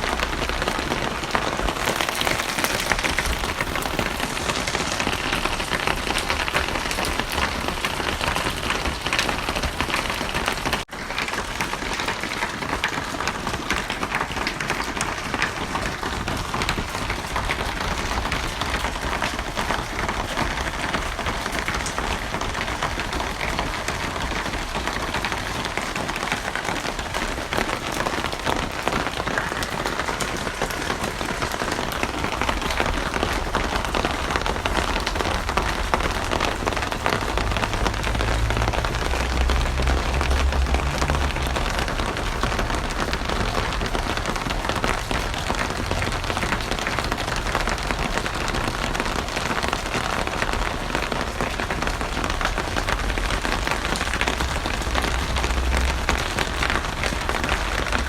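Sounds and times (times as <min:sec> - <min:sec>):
steady rain with ticking drops: 0:00.0 - 0:58.0.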